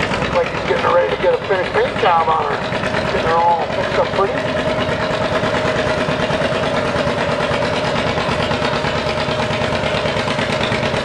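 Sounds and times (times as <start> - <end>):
steady whine: 0.0 - 11.0
tractor engine idling: 0.0 - 11.0.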